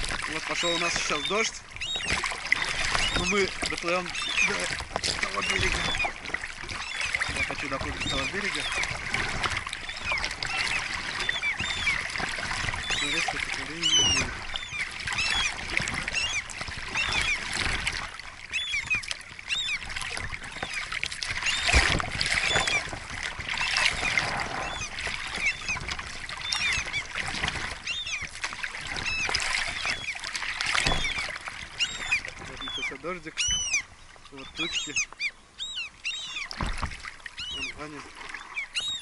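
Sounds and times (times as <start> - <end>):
oars splashing and dripping: 0.0 - 39.0.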